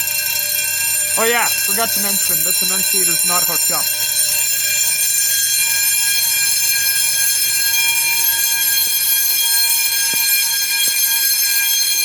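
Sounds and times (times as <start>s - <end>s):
fire alarm bells ringing: 0.0s - 12.0s.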